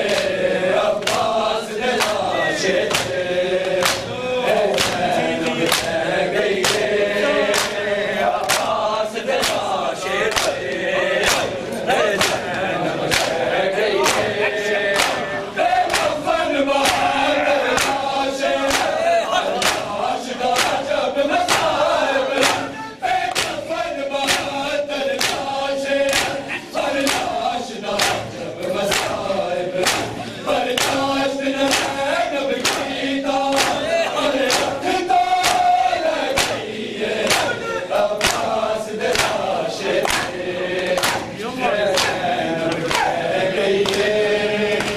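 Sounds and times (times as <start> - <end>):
men chanting a lament: 0.0 - 44.9
hands beating chests: 1.0 - 6.0, 6.6 - 13.4, 14.0 - 26.4, 27.0 - 28.3, 28.9 - 29.2, 29.8 - 43.2.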